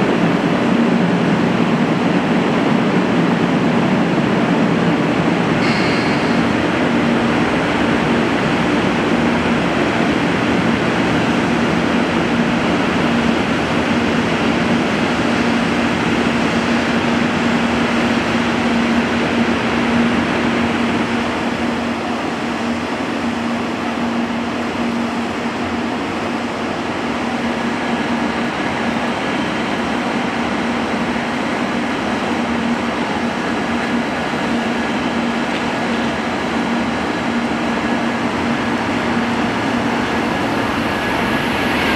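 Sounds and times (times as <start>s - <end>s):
train machinery whirring: 0.0s - 41.9s.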